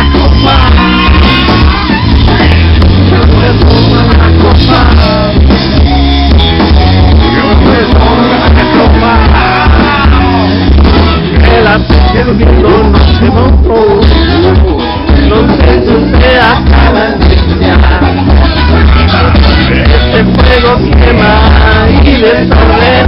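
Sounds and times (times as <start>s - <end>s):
bass: 0.0s - 23.0s
drums: 0.0s - 23.0s
electric guitar: 0.0s - 23.0s
person singing: 0.0s - 23.0s.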